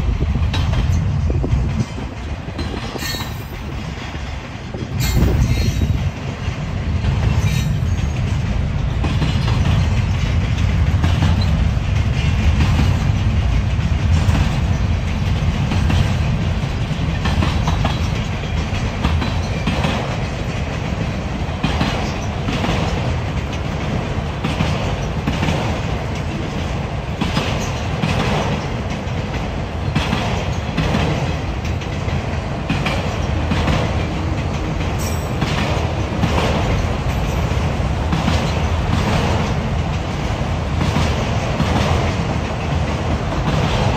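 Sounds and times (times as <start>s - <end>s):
freight train rumbling: 0.0s - 43.9s
wheels clacking over rail joints: 0.0s - 43.9s.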